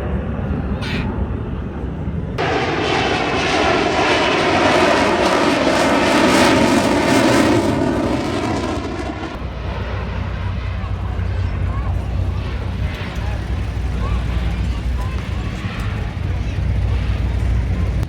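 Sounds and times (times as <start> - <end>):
airplane engine roar: 0.0 - 18.0.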